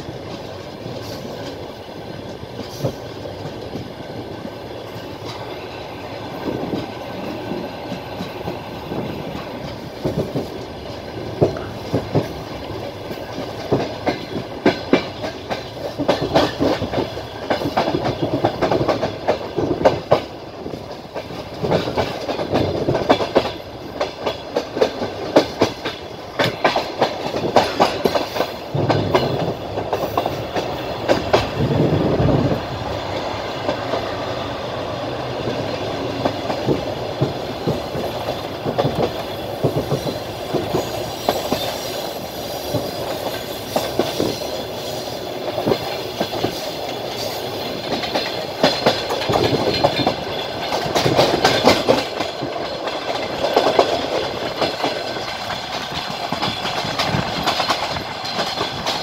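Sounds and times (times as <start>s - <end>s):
train rumble: 0.0s - 59.0s
train wheels clattering over rails: 0.0s - 59.0s.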